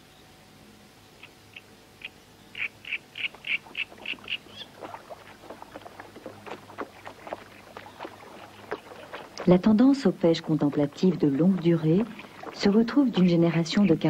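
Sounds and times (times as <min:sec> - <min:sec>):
light water splashing: 0:02.6 - 0:14.0.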